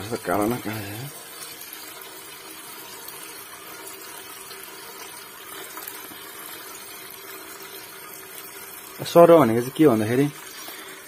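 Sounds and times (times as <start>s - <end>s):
liquid splashing and foaming: 0.0s - 11.0s
liquid trickling into a basin: 0.0s - 11.0s.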